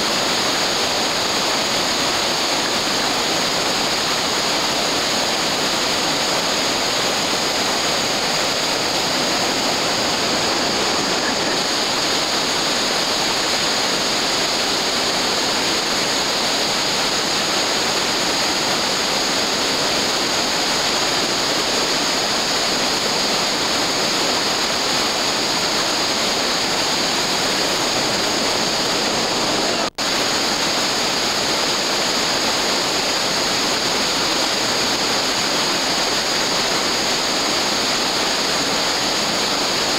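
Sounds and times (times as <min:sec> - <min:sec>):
river rapids roaring: 0:00.0 - 0:39.9.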